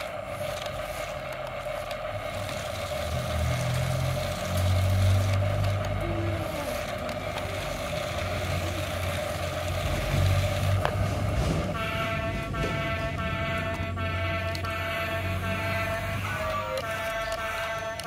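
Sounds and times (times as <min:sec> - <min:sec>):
toy car electric motor whine: 0:00.0 - 0:18.0.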